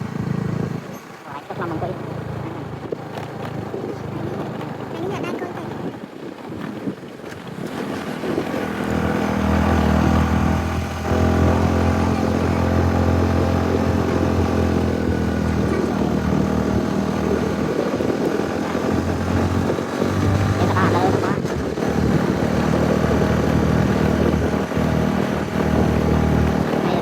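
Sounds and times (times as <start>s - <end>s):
engine running: 0.0s - 6.0s, 7.5s - 27.0s.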